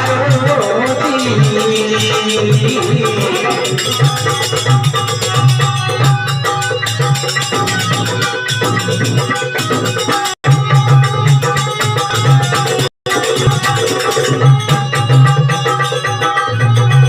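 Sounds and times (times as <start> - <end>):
drums and hand percussion: 0.0 - 17.0.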